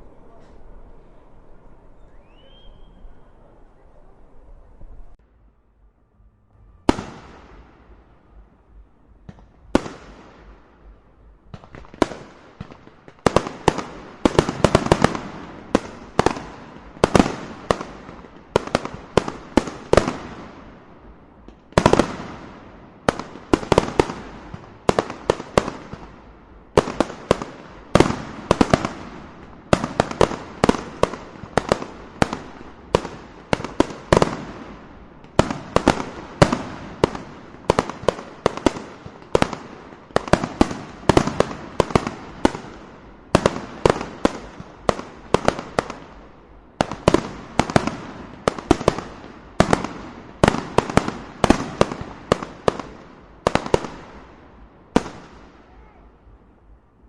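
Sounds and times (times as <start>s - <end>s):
fireworks bangs: 6.5s - 56.4s.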